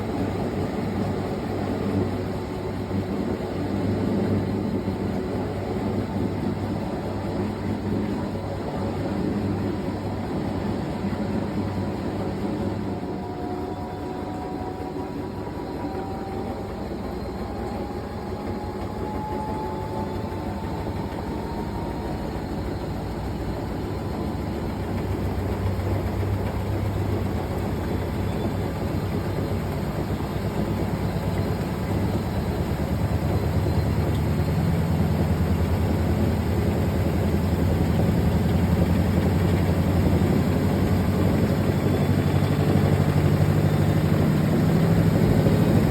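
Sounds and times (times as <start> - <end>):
washing machine low rumble: 0.0 - 45.9
washing machine whine: 0.0 - 45.9.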